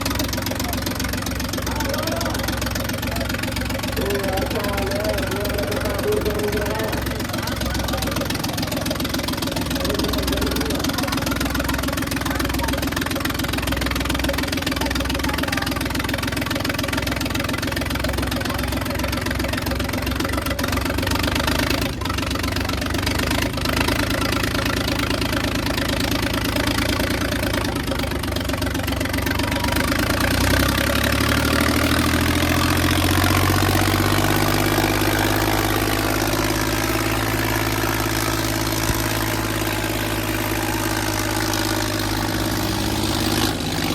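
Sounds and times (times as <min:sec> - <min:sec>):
tractor engine under load: 0:00.0 - 0:43.9.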